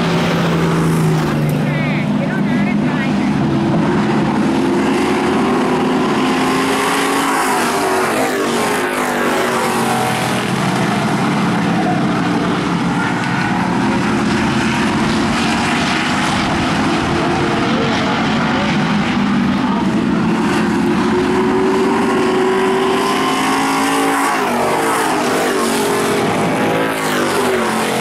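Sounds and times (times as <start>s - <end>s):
race car engines passing: 0.0s - 28.0s.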